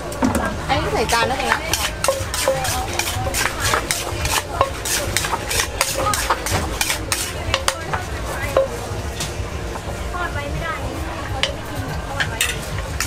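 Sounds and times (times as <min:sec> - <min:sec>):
utensils clinking against pans: 0:00.0 - 0:10.0, 0:11.3 - 0:13.0.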